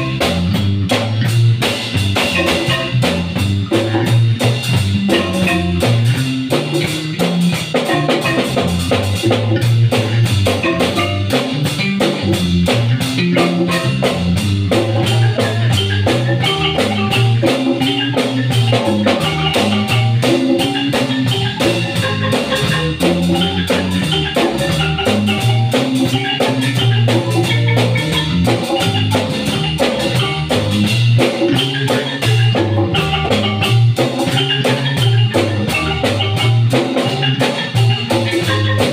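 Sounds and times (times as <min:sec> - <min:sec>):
congas: 0:00.0 - 0:38.9
drum kit beat: 0:00.0 - 0:38.9
marimba playing: 0:00.0 - 0:38.9.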